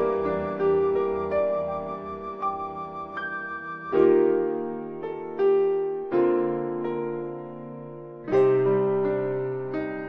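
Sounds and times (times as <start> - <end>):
soft keyboard chords: 0.0 - 10.0.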